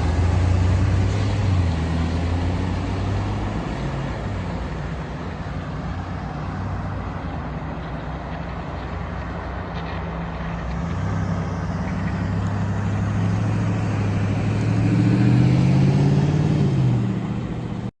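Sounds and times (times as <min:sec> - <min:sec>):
diesel truck engine accelerating: 0:00.0 - 0:17.9.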